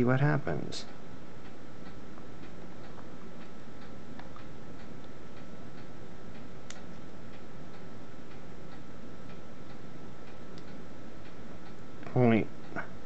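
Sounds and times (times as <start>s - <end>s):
low steady hum: 0.0s - 13.0s
steady ticking: 0.0s - 13.0s.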